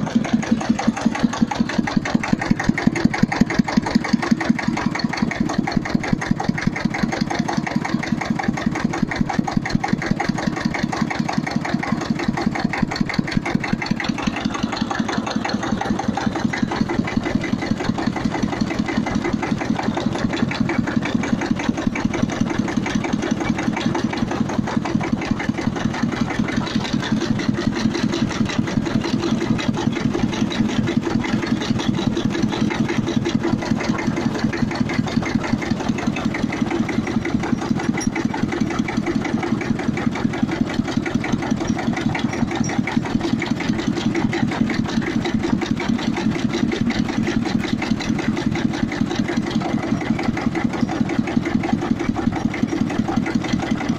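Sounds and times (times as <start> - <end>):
tractor engine idling: 0.0 - 53.9.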